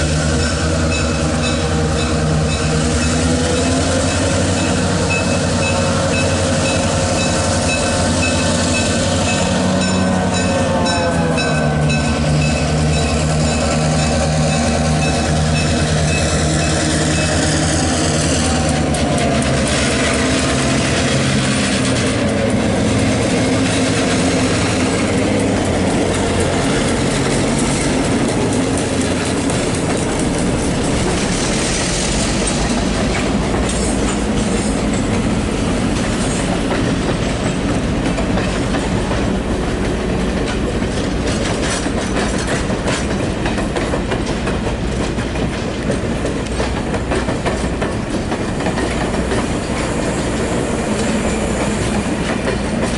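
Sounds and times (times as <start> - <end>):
locomotive engine drone: 0.0 - 52.9
train wheels clattering over track: 0.0 - 52.9.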